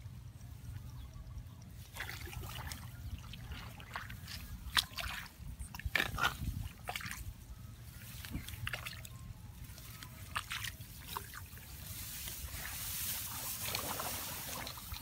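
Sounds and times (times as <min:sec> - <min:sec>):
muddy water dripping and splashing: 0:00.2 - 0:15.0
mud squelching: 0:00.5 - 0:15.0.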